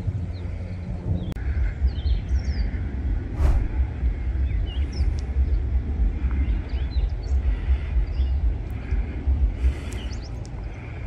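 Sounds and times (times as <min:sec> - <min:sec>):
small birds chirping: 0:00.0 - 0:11.0
wind buffeting microphone: 0:00.0 - 0:11.0.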